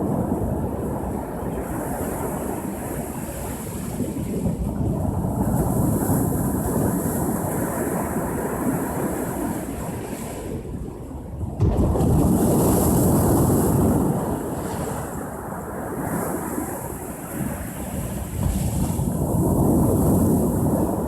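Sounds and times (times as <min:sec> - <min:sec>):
ocean waves crashing on shore: 0:00.0 - 0:21.0.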